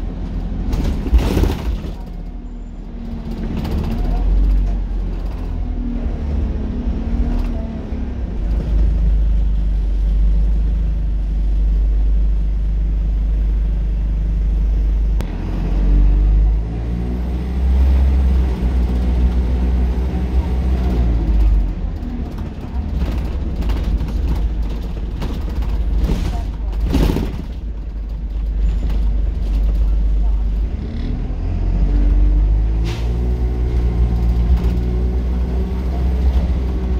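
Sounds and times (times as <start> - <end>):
bus diesel engine rumble: 0.0 - 36.9.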